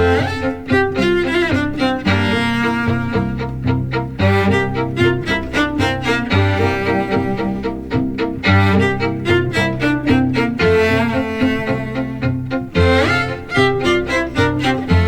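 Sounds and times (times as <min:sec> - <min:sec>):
violin and cello music: 0:00.0 - 0:15.0.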